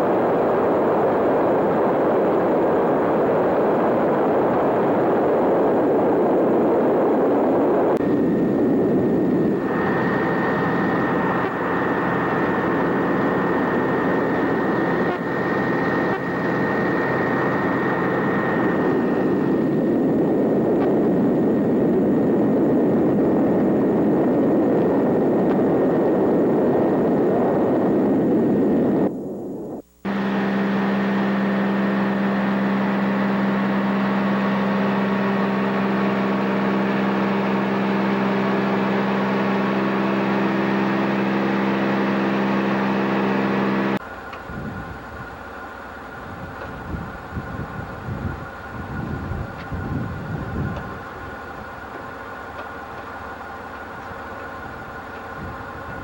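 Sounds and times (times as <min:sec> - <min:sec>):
propeller aircraft engines droning: 0:00.0 - 0:56.0.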